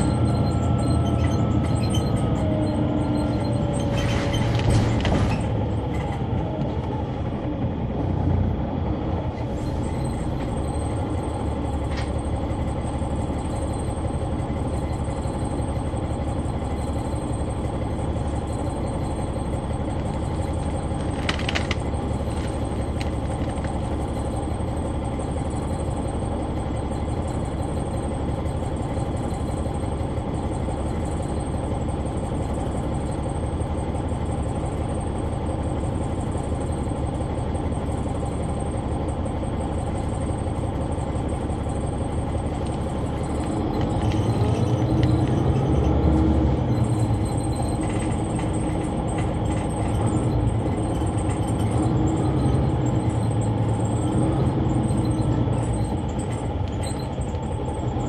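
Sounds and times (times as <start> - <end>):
bus engine droning: 0.0 - 58.0.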